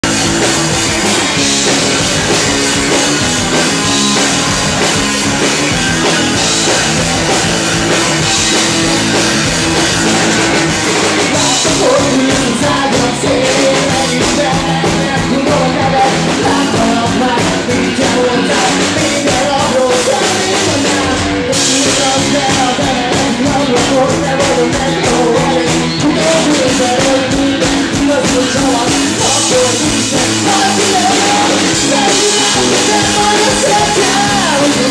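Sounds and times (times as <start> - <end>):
drum kit: 0.0 - 34.9
electric guitar: 0.0 - 34.9
person singing: 3.5 - 34.9.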